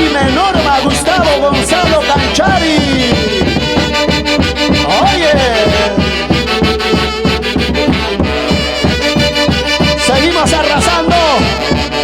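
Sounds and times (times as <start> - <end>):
tropical dance orchestra playing: 0.0 - 12.0
person shouting: 1.4 - 11.6.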